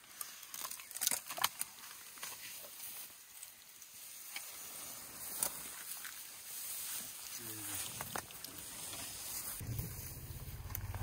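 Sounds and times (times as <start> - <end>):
branches cracking and snapping: 0.0 - 11.0
leaves and twigs rustling: 0.0 - 11.0.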